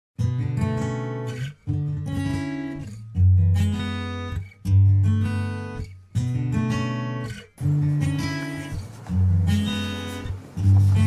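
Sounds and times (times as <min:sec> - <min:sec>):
acoustic guitar strumming chords: 0:00.2 - 0:11.0.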